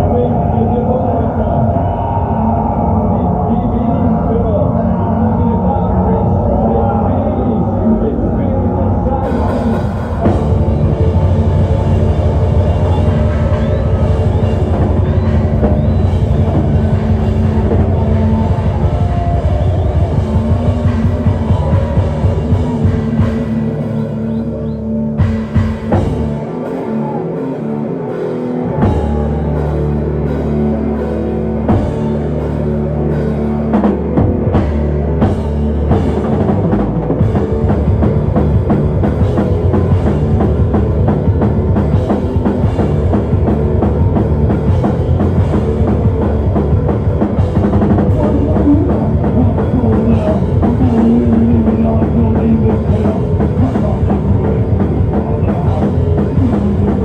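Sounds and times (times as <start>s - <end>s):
low guitar chords ringing: 2.9s - 57.0s
drum kit: 9.2s - 57.0s
live rock band playing: 9.2s - 57.0s.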